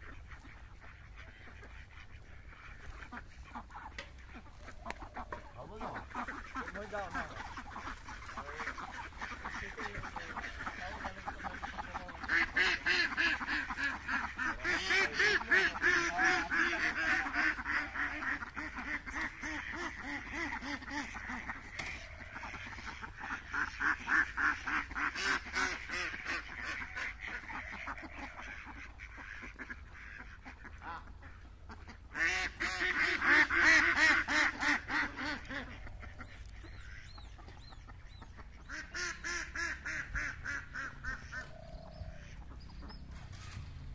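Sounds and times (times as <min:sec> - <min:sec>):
ducks quacking: 0:00.0 - 0:43.9.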